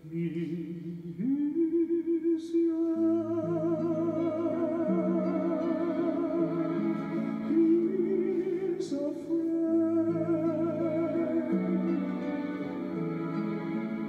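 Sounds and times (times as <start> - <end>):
person singing a slow ballad: 0.0 - 14.0.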